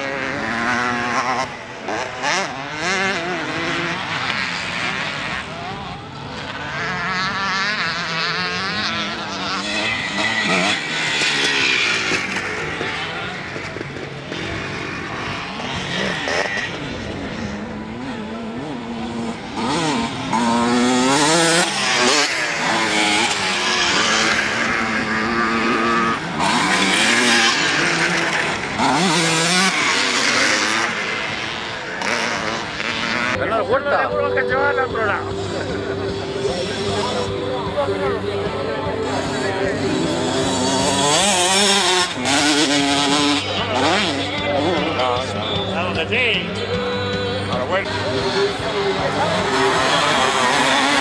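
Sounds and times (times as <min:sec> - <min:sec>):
motocross bike engines revving: 0:00.0 - 0:51.0.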